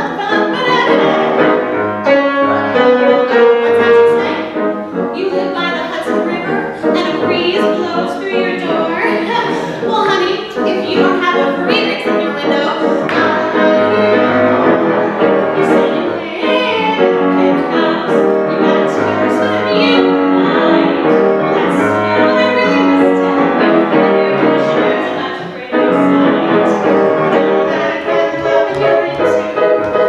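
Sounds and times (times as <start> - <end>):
woman singing: 0.0 - 1.2, 5.1 - 30.0
grand piano: 0.0 - 30.0.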